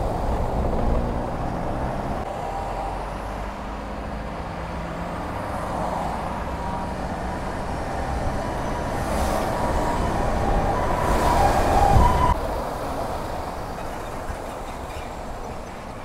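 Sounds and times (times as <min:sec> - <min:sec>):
car engine hum: 0:00.0 - 0:16.0
truck passing: 0:00.0 - 0:16.0
tyres rumbling on snowy road: 0:00.0 - 0:16.0.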